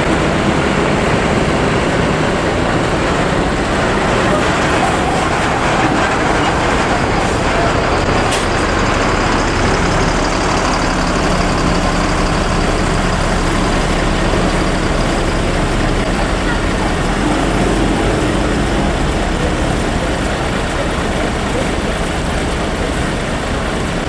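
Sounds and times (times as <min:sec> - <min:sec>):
bus diesel engine running: 0:00.0 - 0:24.0
road and traffic noise: 0:00.0 - 0:24.0.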